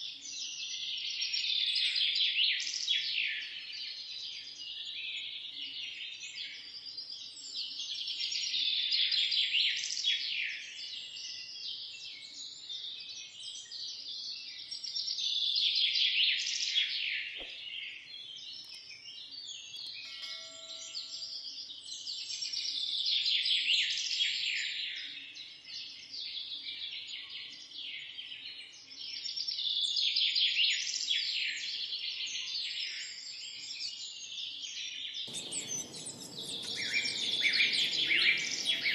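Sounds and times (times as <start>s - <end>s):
small birds chirping and singing: 0.2s - 38.9s.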